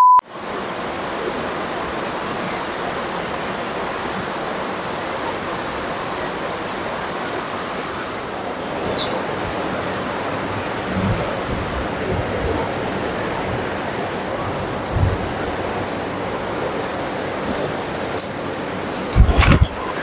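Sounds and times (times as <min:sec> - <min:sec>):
heavy rain pouring: 0:00.2 - 0:20.0.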